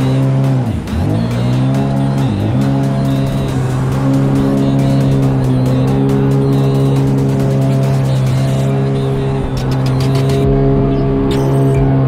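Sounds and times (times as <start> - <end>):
jet ski engine running: 0.0 - 12.0.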